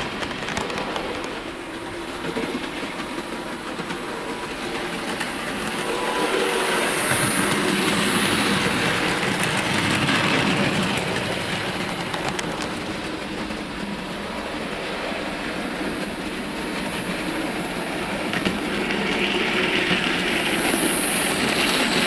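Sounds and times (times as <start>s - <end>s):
model train wagons clickety-clack: 0.0s - 22.0s.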